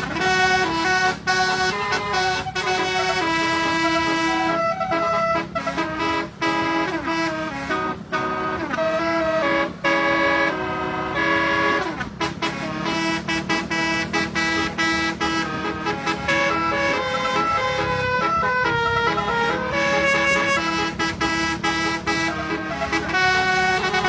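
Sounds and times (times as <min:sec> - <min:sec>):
musical horn melody: 0:00.0 - 0:24.0.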